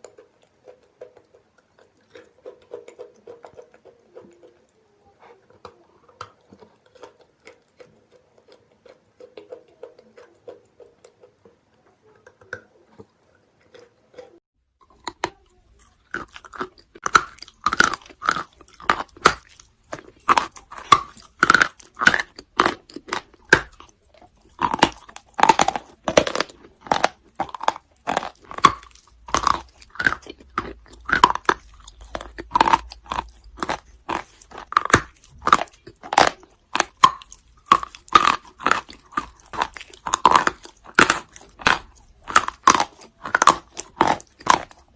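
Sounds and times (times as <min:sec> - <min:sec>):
crunchy chewing: 0:00.0 - 0:44.9.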